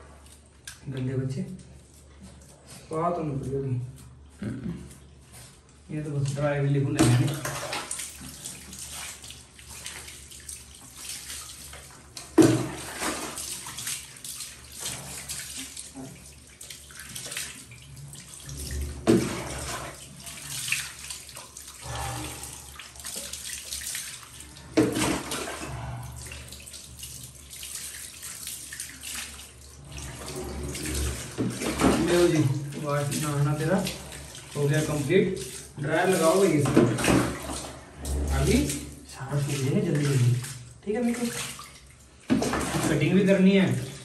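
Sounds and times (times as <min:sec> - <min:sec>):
water pouring and splashing: 0:00.0 - 0:44.0
water sloshing and trickling: 0:00.0 - 0:44.0.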